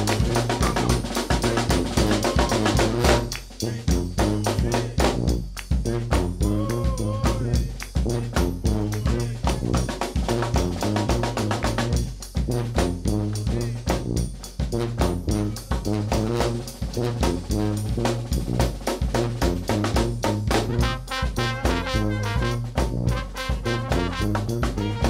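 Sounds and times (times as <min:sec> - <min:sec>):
sousaphone bass line: 0:00.0 - 0:12.0, 0:15.0 - 0:25.0
bass drum and snare beat: 0:00.0 - 0:25.0
brass band playing: 0:00.0 - 0:25.0
trombone and horns: 0:00.0 - 0:25.0.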